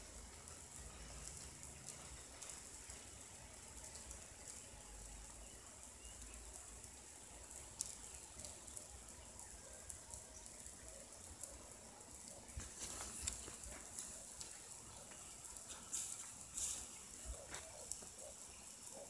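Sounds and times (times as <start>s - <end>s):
sprinklers spraying water: 0.0s - 19.0s.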